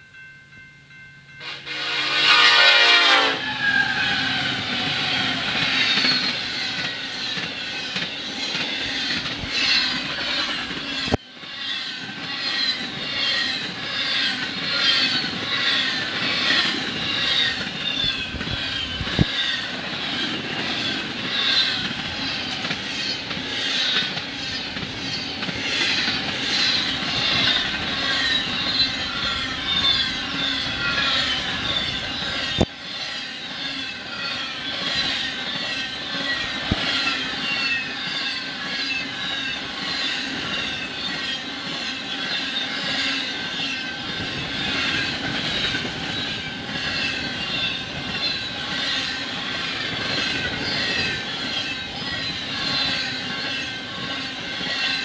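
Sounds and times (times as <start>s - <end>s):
steel wheels rumbling on rail: 1.3s - 55.0s
high wheel squeal: 2.2s - 55.0s.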